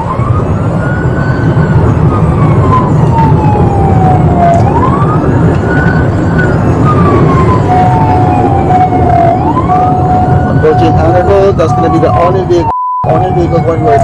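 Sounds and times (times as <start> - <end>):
engine and road rumble: 0.0 - 14.0
wailing emergency siren: 0.0 - 14.0.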